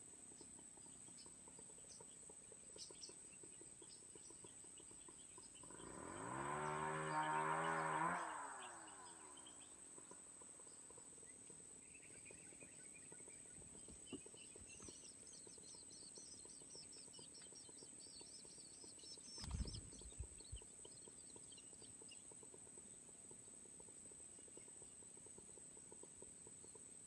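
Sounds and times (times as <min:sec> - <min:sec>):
nestlings chirping: 0:00.3 - 0:22.4.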